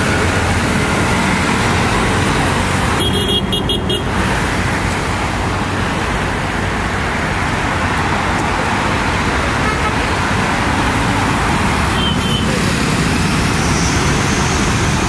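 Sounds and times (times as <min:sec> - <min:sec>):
loud engine roar: 0:00.0 - 0:15.0.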